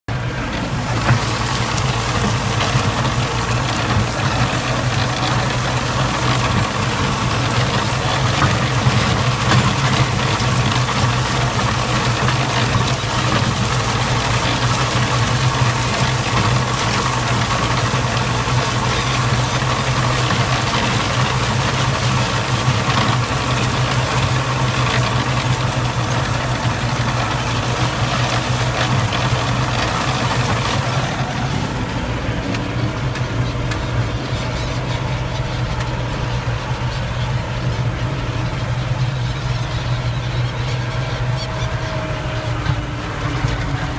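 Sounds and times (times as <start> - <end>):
tractor engine running under load: 0.1 - 43.9
rotary tiller rattle: 0.3 - 43.9.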